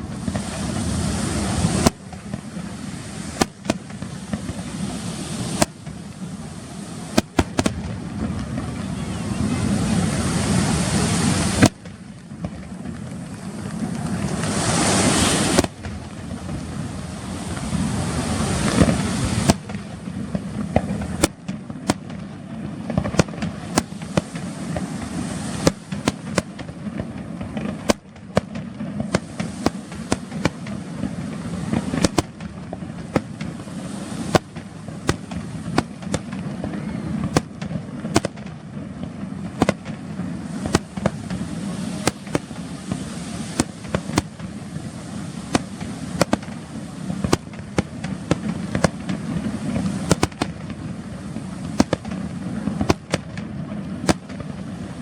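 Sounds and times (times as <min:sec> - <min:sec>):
fireworks bangs and cracks: 0:00.0 - 0:55.0
fireworks hissing: 0:00.0 - 0:55.0.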